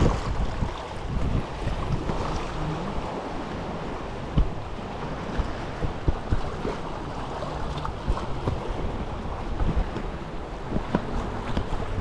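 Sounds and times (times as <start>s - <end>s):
sea waves lapping on rocks: 0.0s - 12.0s
wind buffeting microphone: 0.0s - 12.0s.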